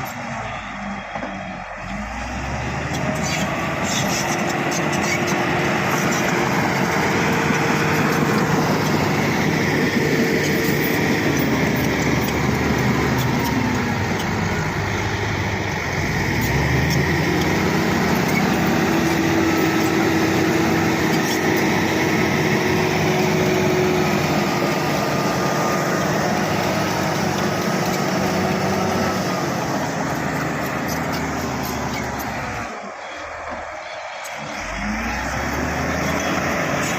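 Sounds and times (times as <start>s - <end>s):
bulldozer diesel engine running: 0.0s - 36.9s.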